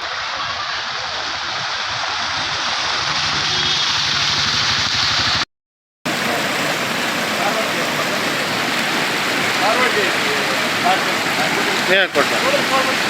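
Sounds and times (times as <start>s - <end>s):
floodwater rushing: 0.0s - 5.5s, 6.1s - 13.0s.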